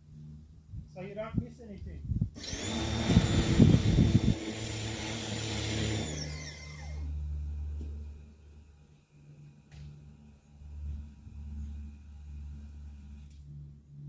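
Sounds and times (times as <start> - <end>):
low hum: 0.0 - 14.0
machine whine winding down: 2.4 - 13.7.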